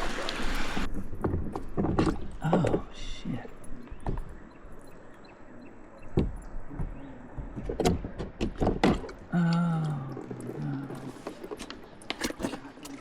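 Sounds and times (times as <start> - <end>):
water noise: 0.0 - 13.0.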